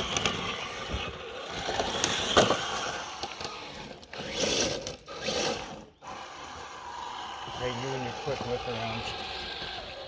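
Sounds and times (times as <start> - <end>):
rc crawler motor whirring: 0.0 - 10.0.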